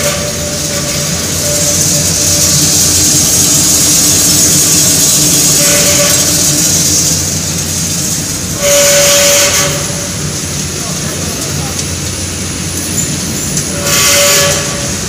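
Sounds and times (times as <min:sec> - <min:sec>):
high hiss: 0:00.0 - 0:15.0
high whine: 0:00.0 - 0:15.0
popcorn machine motor humming: 0:00.0 - 0:15.0.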